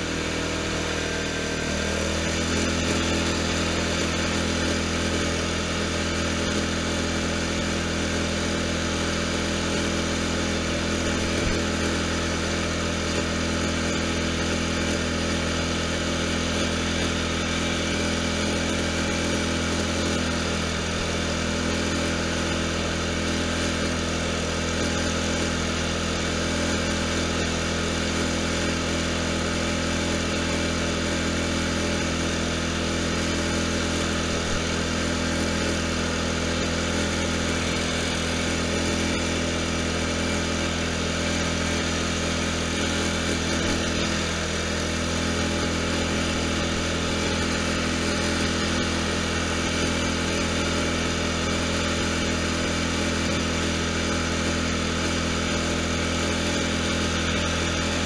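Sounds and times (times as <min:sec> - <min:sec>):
lawn tractor engine drone: 0:00.0 - 0:58.0.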